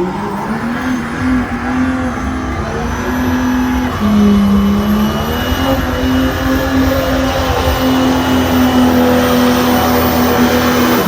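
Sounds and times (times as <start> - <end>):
diesel engine at high revs: 0.0 - 11.0.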